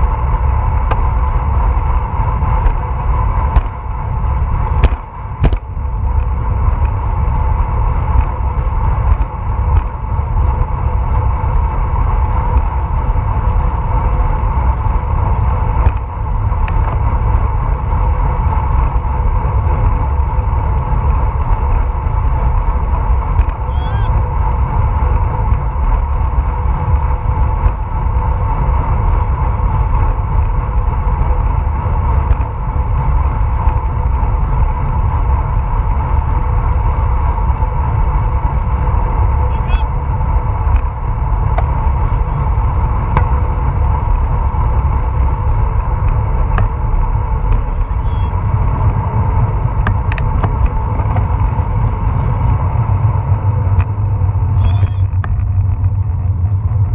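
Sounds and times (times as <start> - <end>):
constant hum: 0.0 - 56.9
road and tyre noise: 0.0 - 56.9.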